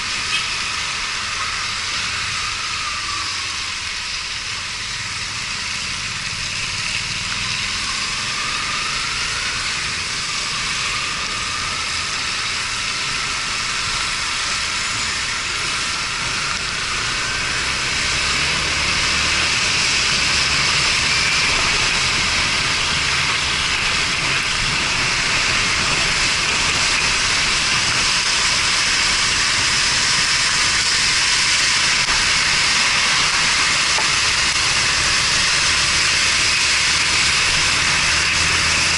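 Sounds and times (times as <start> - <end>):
wind and road hiss: 0.0 - 38.9
motorcycle engine running: 4.6 - 38.9.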